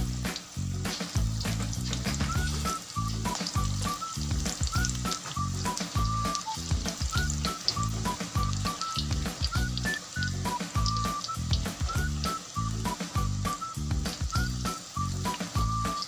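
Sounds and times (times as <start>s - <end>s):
background music with beat: 0.0s - 16.0s
deep-frying sizzle in oil: 0.0s - 16.0s.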